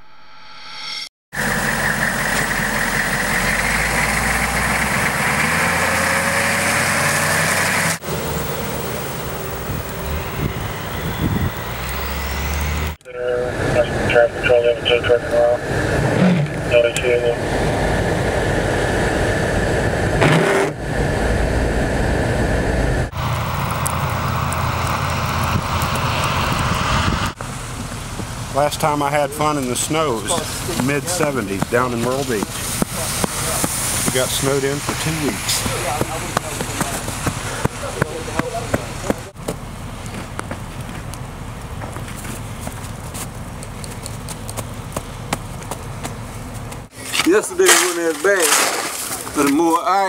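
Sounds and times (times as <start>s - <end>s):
quieter vehicle sound: 0.4s - 49.8s
vehicle engine running: 1.4s - 46.9s.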